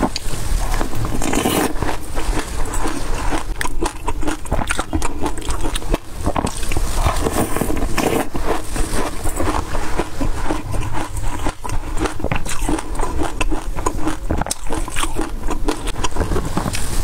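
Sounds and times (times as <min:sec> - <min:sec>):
chewing crunches: 0:00.0 - 0:17.0
plastic spoon scraping yogurt: 0:00.0 - 0:17.0
wet mouth sounds: 0:00.0 - 0:17.0.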